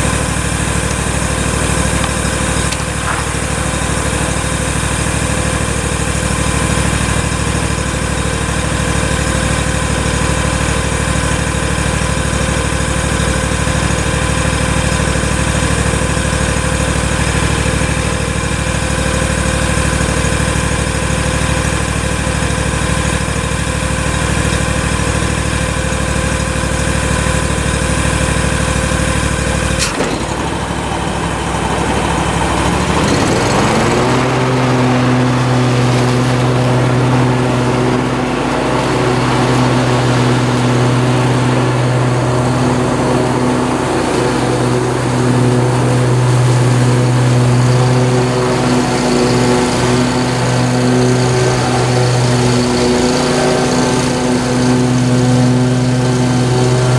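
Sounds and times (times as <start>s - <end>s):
lawn mower engine running: 0.0s - 56.9s.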